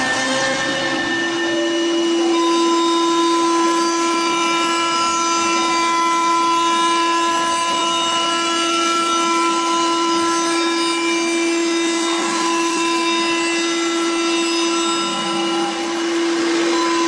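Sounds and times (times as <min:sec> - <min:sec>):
spindle whine: 0:00.0 - 0:17.0.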